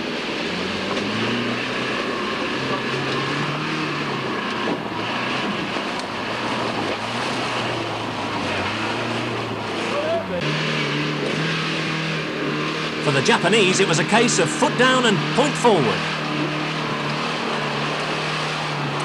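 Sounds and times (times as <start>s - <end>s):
engine revving under load: 0.0s - 19.0s.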